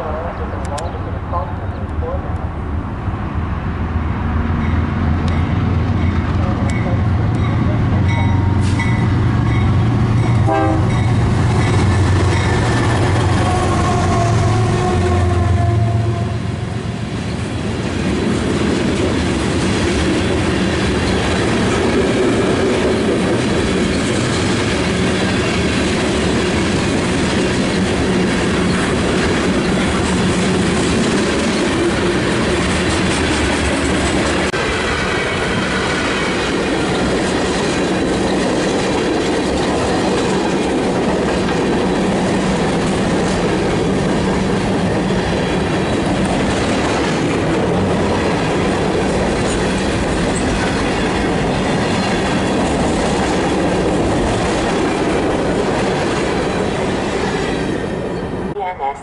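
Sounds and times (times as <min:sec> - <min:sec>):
train engine tones: 0:00.0 - 0:59.0
train wheels clacking on rails: 0:04.6 - 0:15.4, 0:17.2 - 0:58.2.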